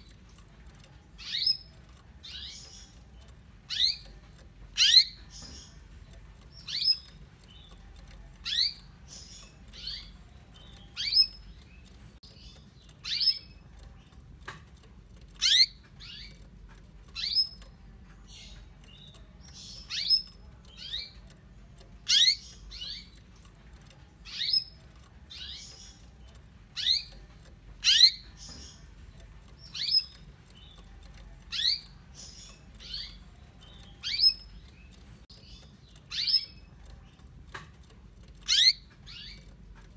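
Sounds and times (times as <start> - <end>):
canary chirping: 0.0 - 39.9.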